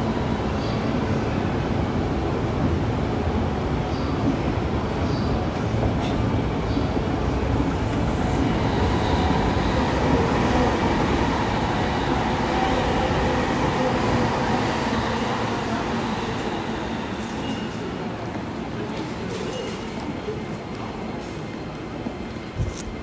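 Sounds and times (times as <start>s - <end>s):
busy station noise: 0.0s - 23.0s
train rumbling: 0.0s - 23.0s.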